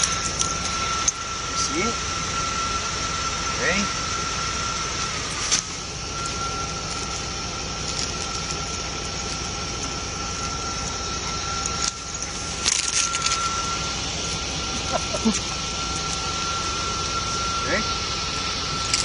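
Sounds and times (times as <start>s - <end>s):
constant high hum: 0.0s - 19.0s.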